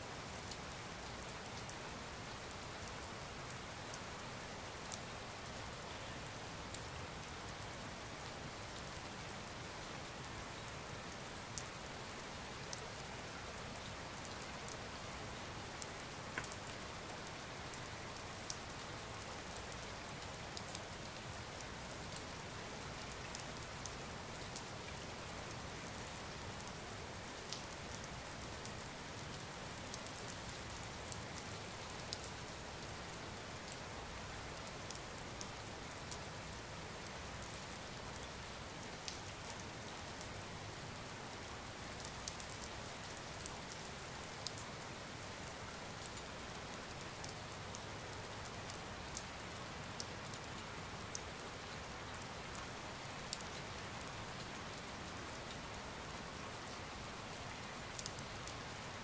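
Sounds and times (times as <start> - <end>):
steady rain on leaves: 0.0 - 59.0.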